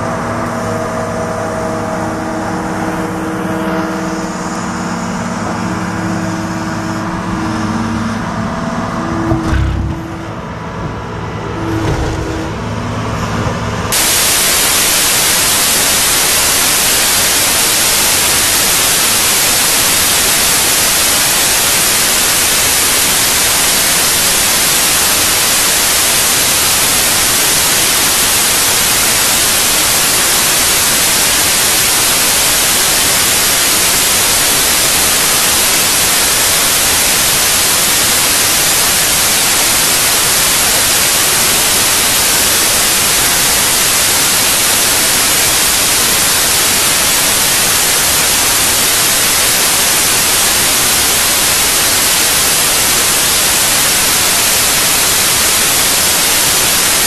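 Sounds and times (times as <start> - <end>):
static hiss: 0.0 - 7.8, 13.9 - 57.0.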